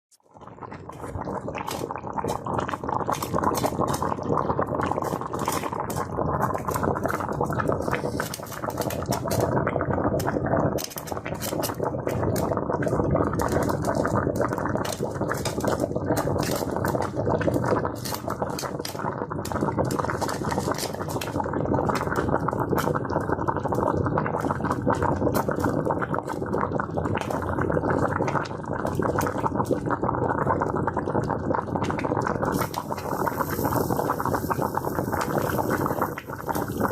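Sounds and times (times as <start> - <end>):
water boiling and bubbling: 0.2 - 36.9.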